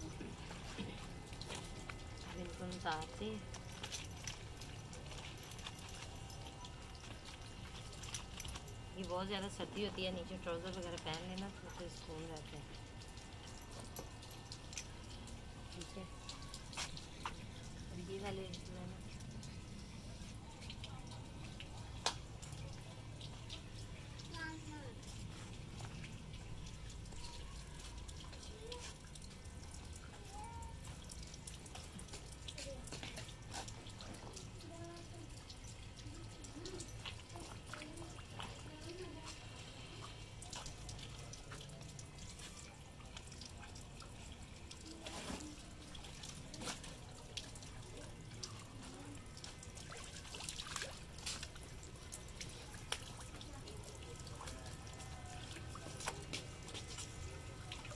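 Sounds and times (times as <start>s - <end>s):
water splashing: 0.0s - 57.9s.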